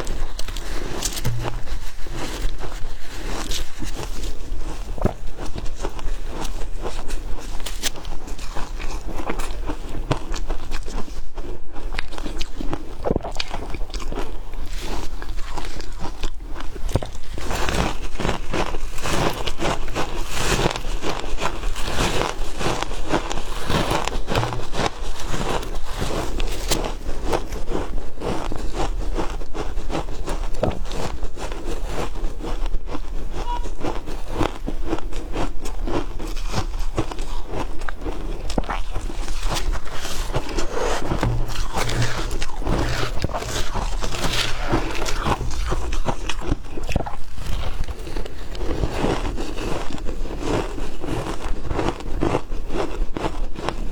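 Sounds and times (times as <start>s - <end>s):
crunching and chewing of ice: 0.0s - 53.9s.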